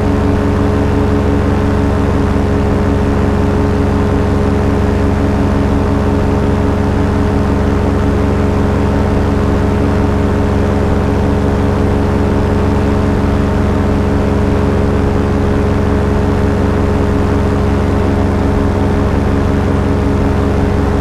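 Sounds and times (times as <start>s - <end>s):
small aircraft engine running: 0.0s - 21.0s.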